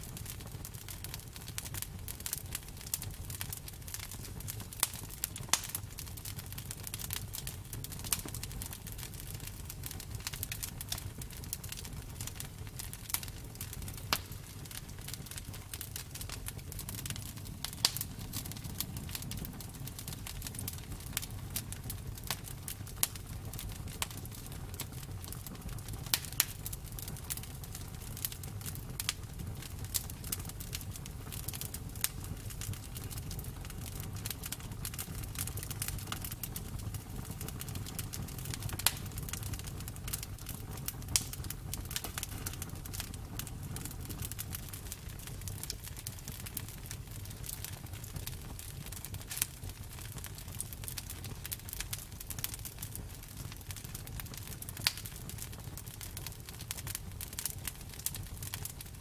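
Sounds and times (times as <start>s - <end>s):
burning wood crackling and popping: 0.0s - 59.0s
campfire flames rumbling: 0.0s - 59.0s.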